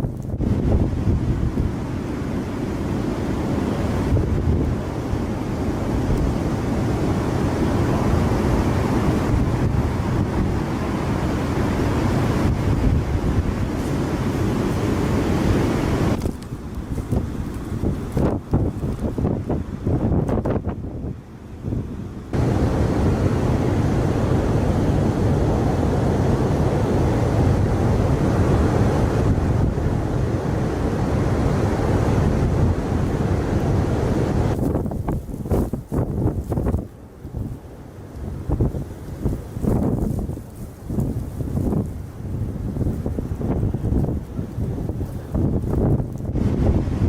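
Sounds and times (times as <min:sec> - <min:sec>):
strong wind buffeting microphone: 0:00.0 - 0:47.0
surf from big waves: 0:00.0 - 0:47.0.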